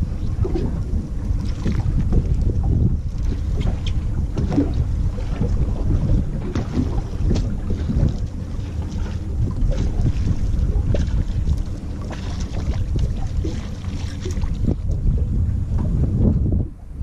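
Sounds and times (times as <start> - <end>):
water splashes: 0.0 - 16.3
wind buffeting microphone: 0.0 - 17.0.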